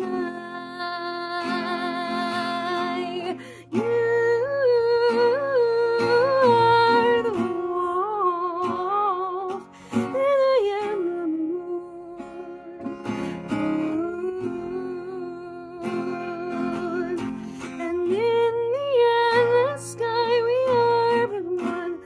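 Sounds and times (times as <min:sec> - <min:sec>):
strummed acoustic guitar: 0:00.0 - 0:22.0
woman singing wordless notes: 0:00.0 - 0:22.0.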